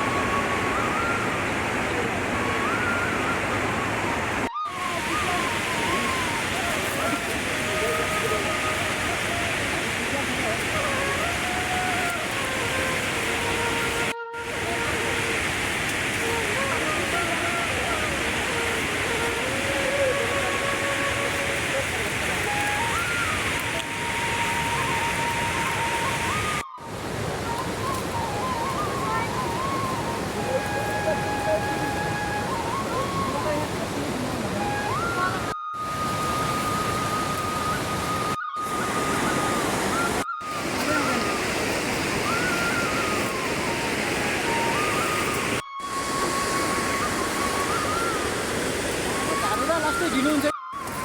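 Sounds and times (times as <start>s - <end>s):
high whistle-like tone: 0.0s - 15.3s, 16.1s - 51.0s
steady rushing noise: 0.0s - 51.0s.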